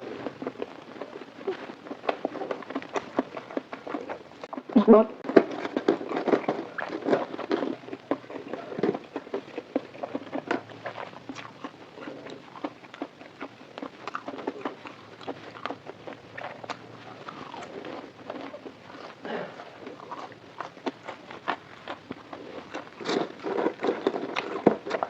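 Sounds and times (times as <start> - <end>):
chewing crunchy fried food: 0.0 - 25.0.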